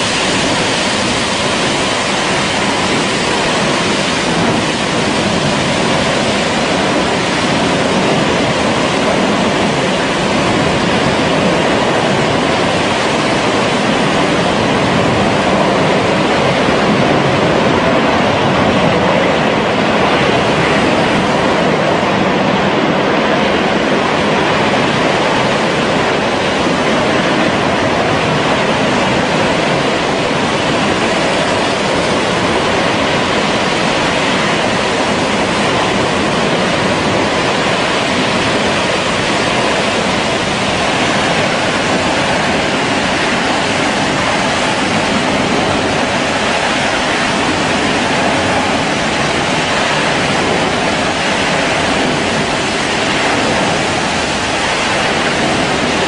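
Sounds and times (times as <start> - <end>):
gas jet roaring: 0.0 - 56.0.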